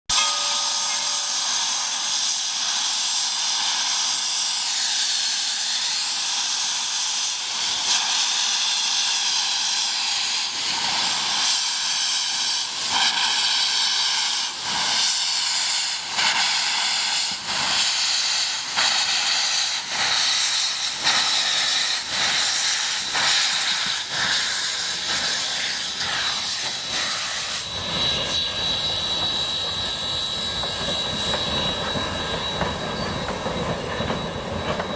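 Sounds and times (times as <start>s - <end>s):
steam hissing from cylinder cocks: 0.1s - 34.9s
steam locomotive exhaust chuffs: 0.1s - 34.9s.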